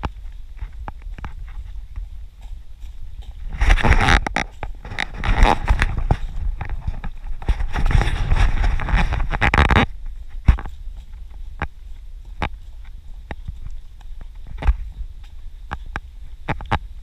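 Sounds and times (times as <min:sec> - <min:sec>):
running footsteps on dirt trail: 0:00.0 - 0:17.0.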